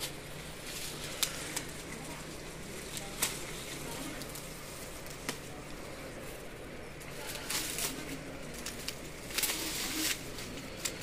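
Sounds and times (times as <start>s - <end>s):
sugarcane stalks cracking: 0.0s - 5.8s, 7.0s - 11.0s.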